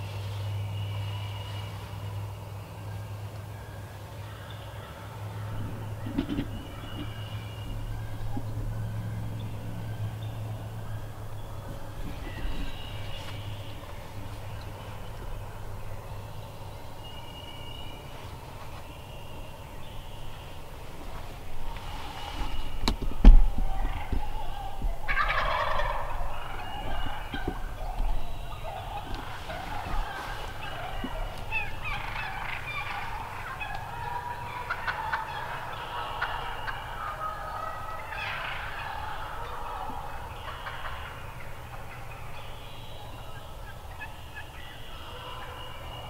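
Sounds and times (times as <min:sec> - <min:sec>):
turkey gobbling: 0:04.2 - 0:46.0.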